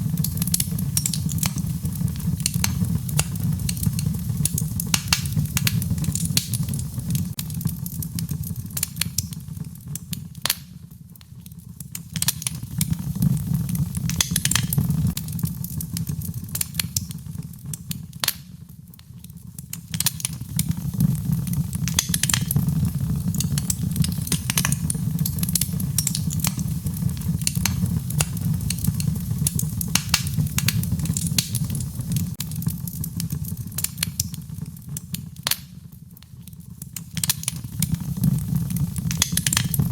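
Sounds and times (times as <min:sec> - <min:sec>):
low rumble of flames: 0:00.0 - 0:39.9
wood fire popping: 0:00.0 - 0:39.9.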